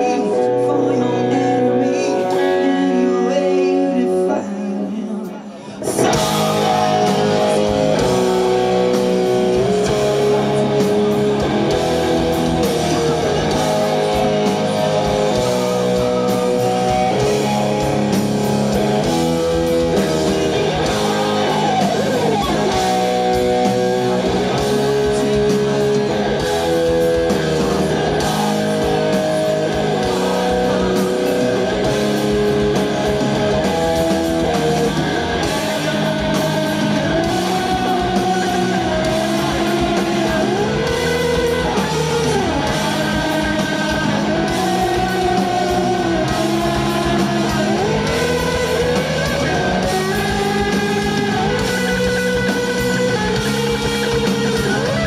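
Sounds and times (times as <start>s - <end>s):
bass guitar: 0.0s - 5.1s, 5.7s - 55.0s
drums: 0.0s - 55.0s
electric guitar melody: 0.0s - 55.0s.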